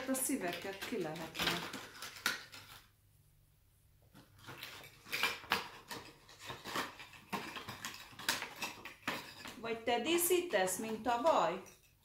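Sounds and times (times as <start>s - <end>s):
ornaments and packaging rustling: 0.0s - 3.0s, 4.0s - 12.0s.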